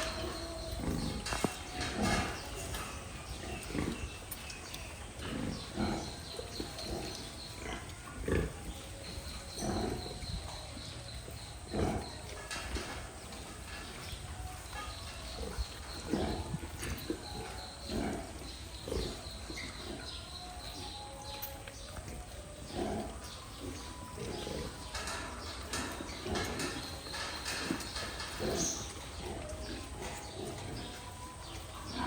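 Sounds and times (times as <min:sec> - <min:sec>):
pigs grunting: 0:00.0 - 0:32.0.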